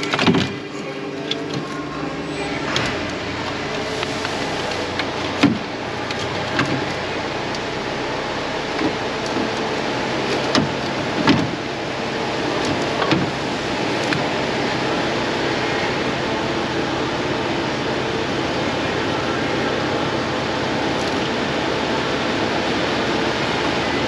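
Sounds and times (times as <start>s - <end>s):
steady noisy hum: 0.0s - 24.0s.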